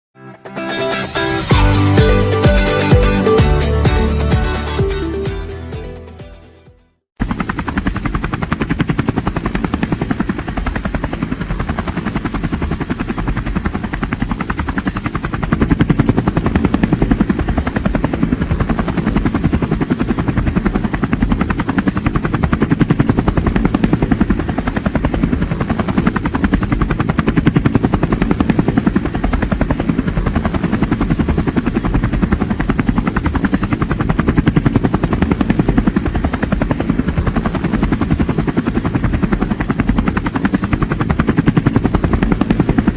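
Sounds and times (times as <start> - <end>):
helicopter rotor chopping: 7.2 - 42.9.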